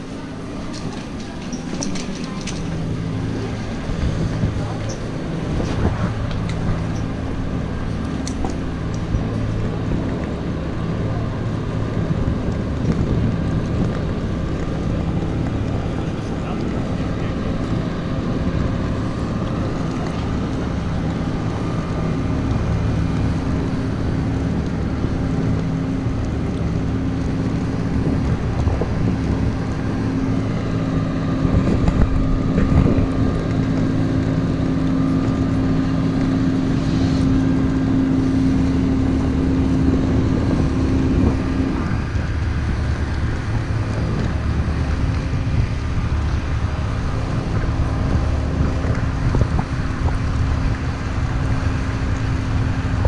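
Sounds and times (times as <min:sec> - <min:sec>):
airplane engines rumbling in cabin: 0:00.0 - 0:53.0
steady hum: 0:00.0 - 0:53.0.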